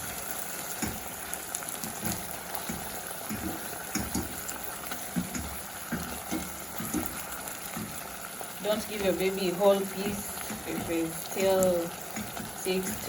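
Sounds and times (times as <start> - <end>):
food bubbling and sizzling: 0.0 - 13.0
utensil mashing food in pan: 0.3 - 13.0.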